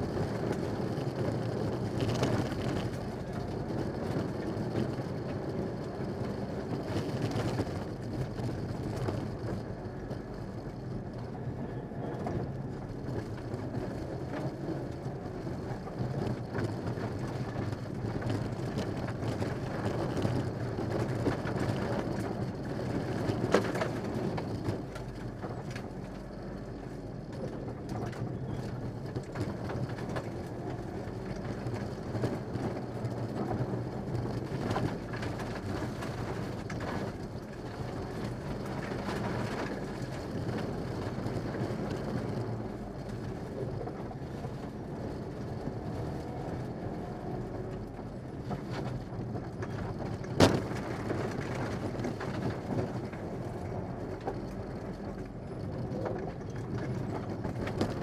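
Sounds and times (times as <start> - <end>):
car engine running from inside: 0.0 - 58.0
road noise: 0.0 - 58.0.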